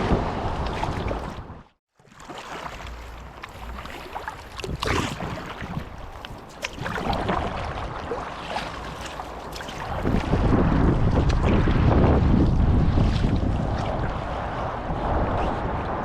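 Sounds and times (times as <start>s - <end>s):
wind rumble on microphone: 0.0s - 1.8s, 2.8s - 16.0s
paddle splashing in water: 0.0s - 15.1s.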